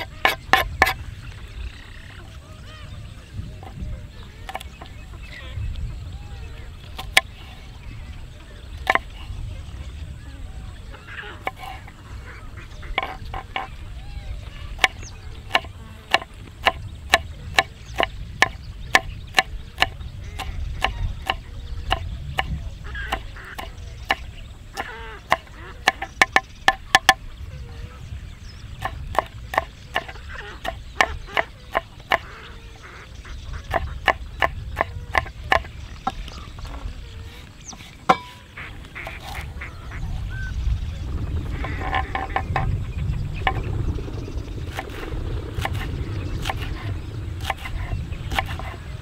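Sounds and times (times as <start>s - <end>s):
wind rumble on microphone: 0.0s - 49.0s.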